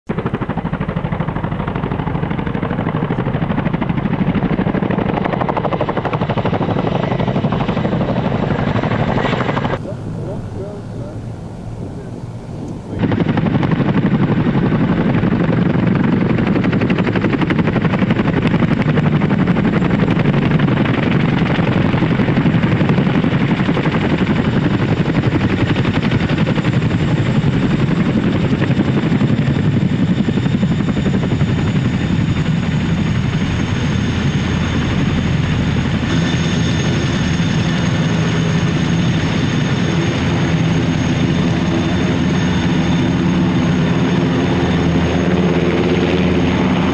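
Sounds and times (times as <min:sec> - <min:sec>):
helicopter rotor noise: 0:00.1 - 0:46.9
turbine engine whine: 0:00.1 - 0:46.9.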